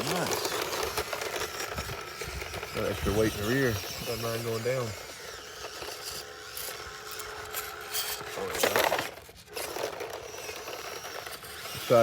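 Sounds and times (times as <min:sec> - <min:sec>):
electric motor whine: 0:00.0 - 0:12.0
tyres scraping on stone: 0:00.0 - 0:12.0.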